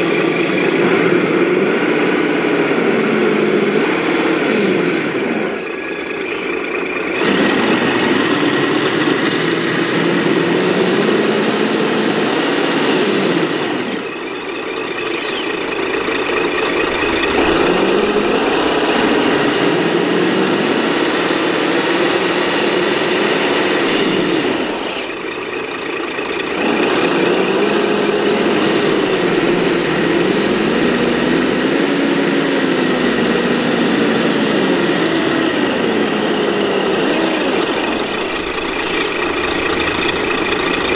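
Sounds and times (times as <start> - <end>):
toy trucks driving through sand: 0.0 - 40.9.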